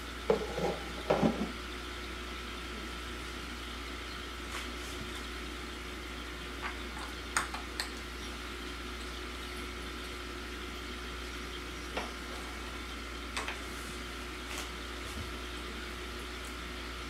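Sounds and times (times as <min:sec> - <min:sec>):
aquarium air stones bubbling: 0:00.0 - 0:17.0
constant low hum: 0:00.0 - 0:17.0.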